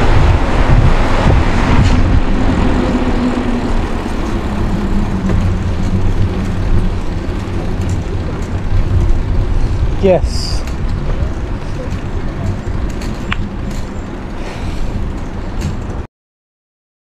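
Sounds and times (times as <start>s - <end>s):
wind on microphone: 0.0s - 13.7s
vehicle engine hum: 0.0s - 16.1s.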